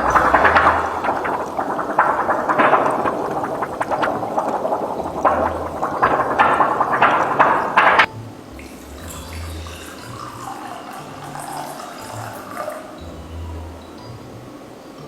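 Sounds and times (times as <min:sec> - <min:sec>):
water churning and bubbling: 0:00.0 - 0:14.4
faint water sound: 0:00.0 - 0:15.0.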